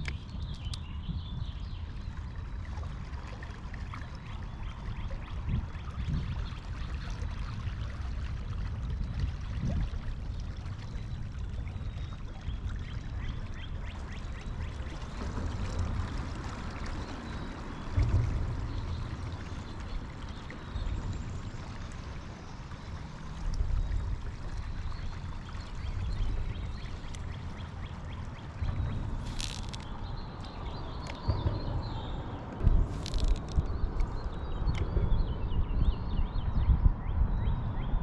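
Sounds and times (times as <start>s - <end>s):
water trickling and splashing: 0.0s - 34.8s
constant low rumble: 0.0s - 38.0s.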